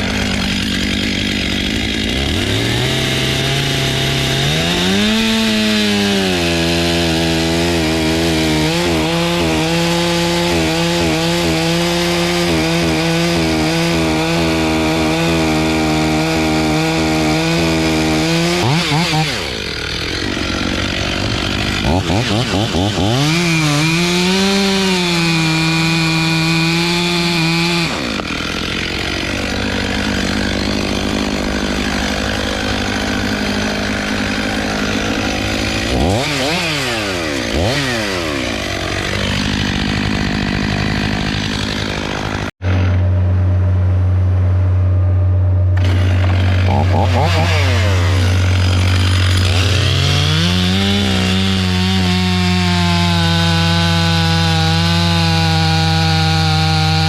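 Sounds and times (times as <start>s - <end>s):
chainsaw revving: 0.0s - 43.1s, 45.8s - 57.0s.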